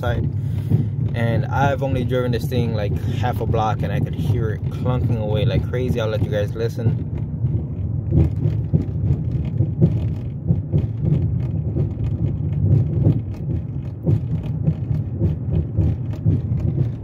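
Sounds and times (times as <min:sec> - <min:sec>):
low rumble inside car cabin: 0:00.0 - 0:17.0
suspension clunking: 0:00.0 - 0:17.0.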